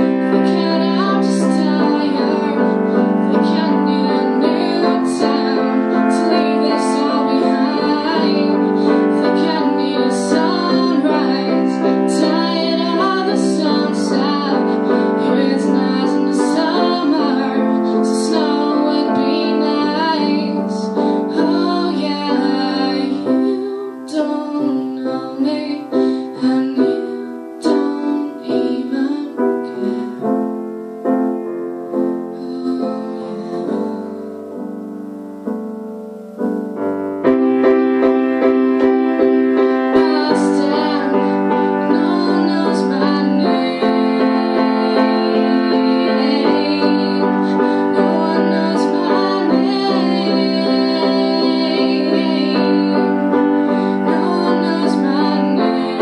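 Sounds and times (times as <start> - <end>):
girl singing into a microphone: 0.0 - 36.6, 37.5 - 56.0
grand piano accompaniment: 0.0 - 56.0.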